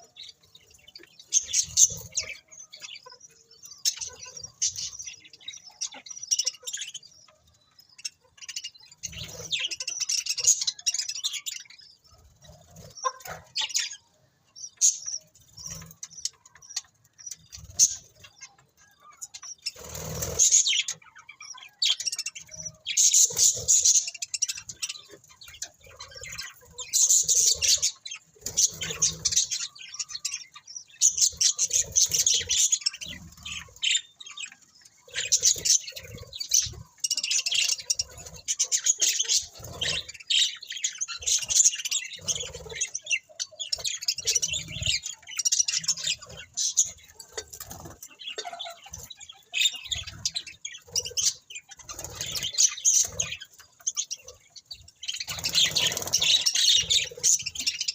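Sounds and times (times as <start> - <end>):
budgerigars chirping: 0.0 - 57.9.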